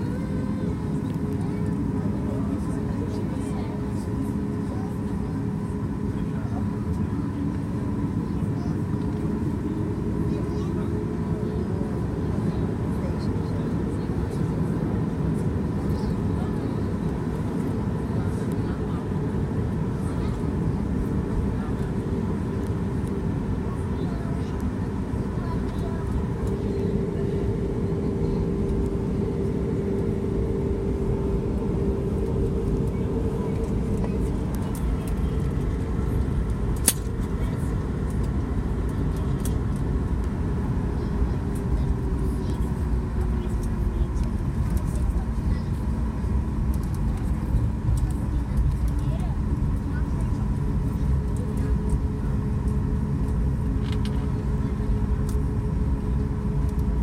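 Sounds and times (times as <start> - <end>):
constant cabin hum: 0.0 - 57.0
jet engines rumbling: 0.0 - 57.0.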